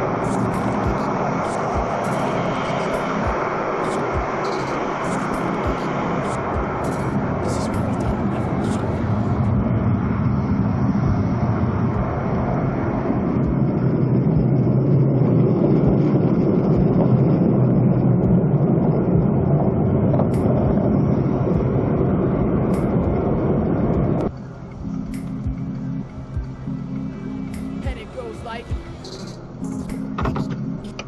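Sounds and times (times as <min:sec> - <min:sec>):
loud mechanical noise: 0:00.0 - 0:31.0.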